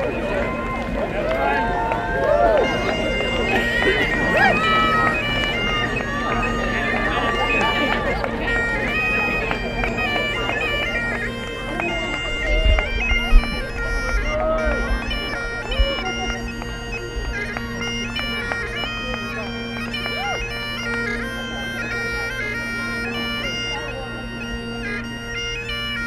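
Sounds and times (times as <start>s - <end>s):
bagpipes playing a tune: 0.0s - 26.0s.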